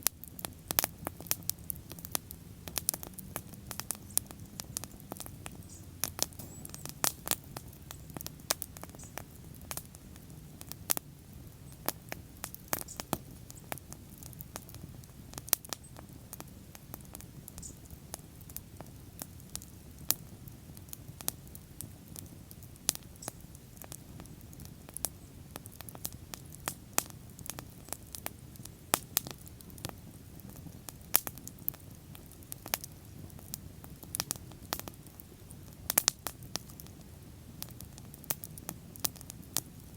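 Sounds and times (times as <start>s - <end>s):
bonfire crackling: 0.0s - 39.9s
burning wood popping: 0.0s - 39.9s.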